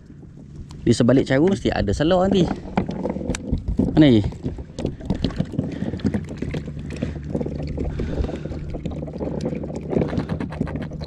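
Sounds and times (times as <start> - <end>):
knocks and rattles on kayak: 0.0 - 11.0
steady low hum: 0.0 - 11.0.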